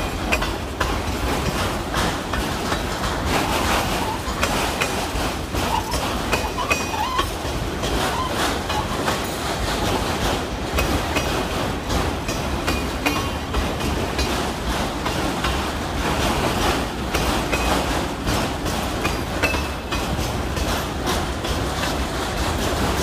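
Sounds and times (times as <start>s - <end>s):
train rumble: 0.0s - 23.0s
train wheels clattering over rail joints: 0.0s - 23.0s.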